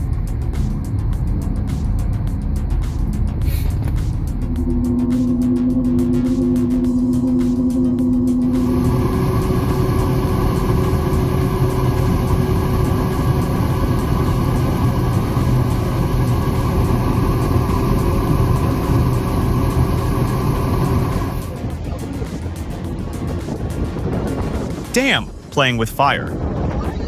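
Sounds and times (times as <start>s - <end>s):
heavy vehicle engine running: 0.0s - 25.2s.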